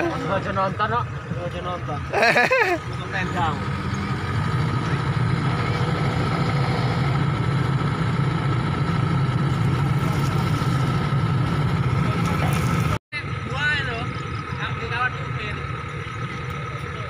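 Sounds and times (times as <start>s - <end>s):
heavy diesel engines droning: 0.0s - 17.0s.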